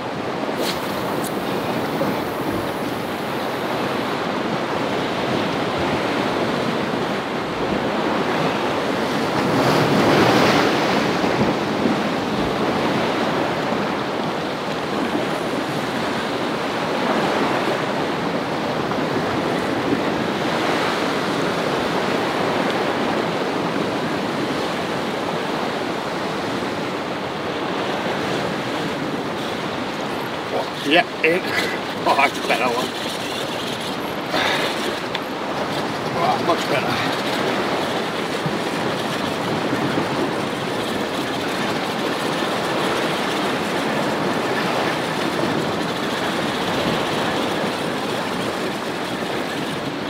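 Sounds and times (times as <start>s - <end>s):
waves washing against rocky shore: 0.0s - 50.0s.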